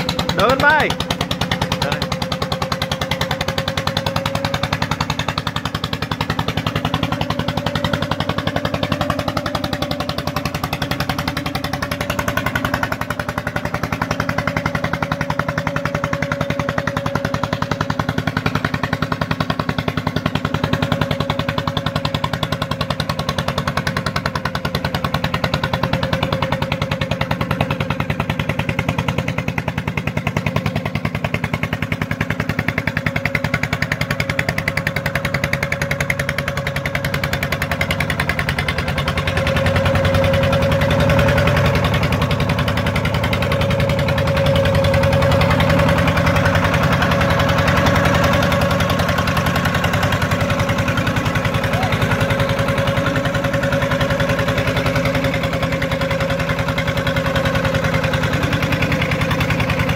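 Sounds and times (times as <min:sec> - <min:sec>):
drilling machine engine running: 0:00.0 - 0:59.9.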